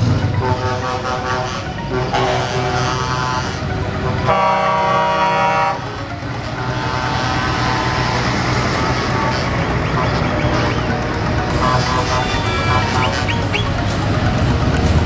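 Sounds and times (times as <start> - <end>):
truck diesel engines running: 0.0 - 15.0
truck air horn blasts: 0.2 - 5.8, 6.4 - 13.8.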